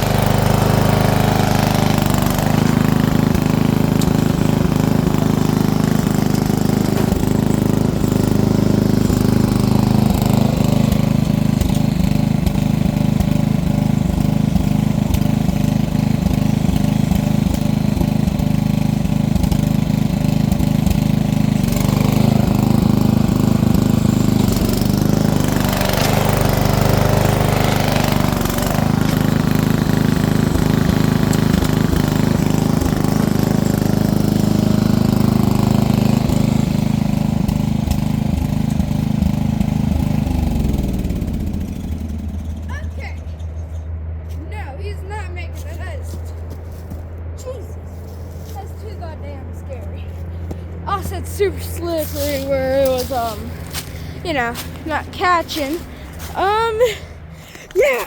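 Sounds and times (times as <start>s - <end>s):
vehicle engine revving: 0.0s - 45.2s, 46.2s - 57.8s.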